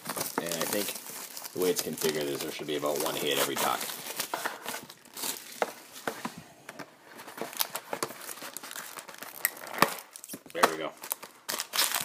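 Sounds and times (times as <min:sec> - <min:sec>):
wrapping and cardboard crinkling: 0:00.0 - 0:06.3, 0:07.0 - 0:12.0.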